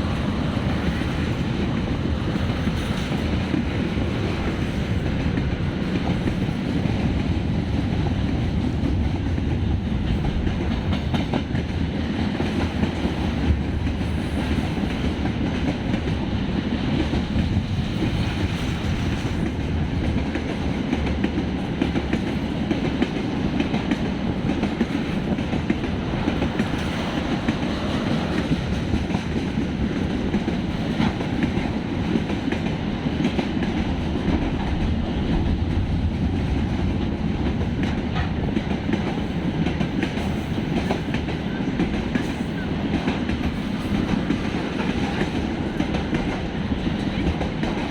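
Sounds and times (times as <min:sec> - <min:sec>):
train wagons rumbling: 0:00.0 - 0:47.9.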